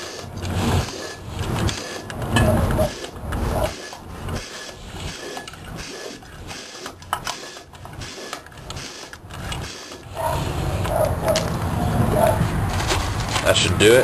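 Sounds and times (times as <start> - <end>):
hand pump strokes: 0.0 - 11.4.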